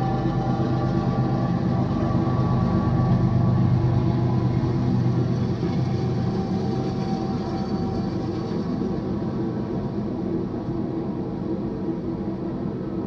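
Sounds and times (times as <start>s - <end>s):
diesel locomotive engine tones: 0.0s - 13.0s
train rumbling on rails: 0.0s - 13.0s.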